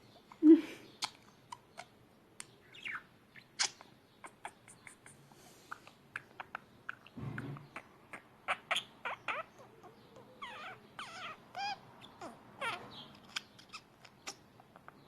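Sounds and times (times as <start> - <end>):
small animal squeaky chirps: 2.6 - 15.0.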